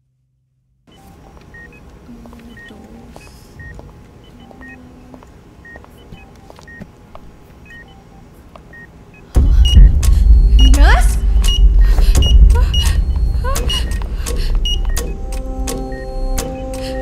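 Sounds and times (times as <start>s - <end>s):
patient monitor beeping: 0.9s - 17.0s.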